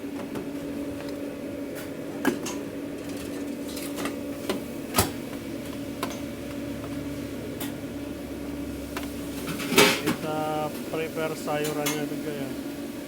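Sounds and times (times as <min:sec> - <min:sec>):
kitchen equipment humming: 0:00.0 - 0:13.0.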